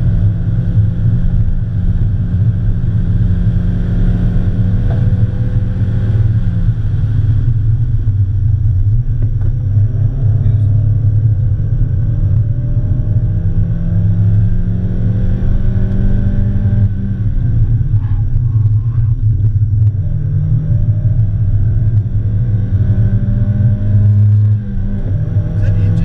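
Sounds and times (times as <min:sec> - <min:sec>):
car engine rumble from cabin: 0:00.0 - 0:26.0.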